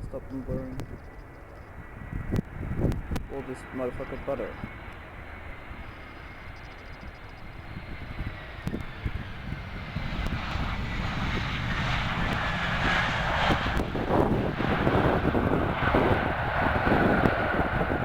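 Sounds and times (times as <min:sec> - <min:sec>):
jet engines passing: 0:00.0 - 0:18.0.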